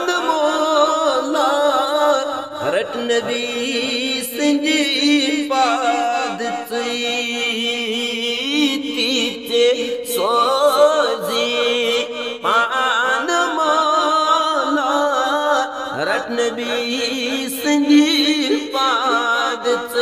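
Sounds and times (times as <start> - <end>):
man singing devotional song: 0.0 - 20.0.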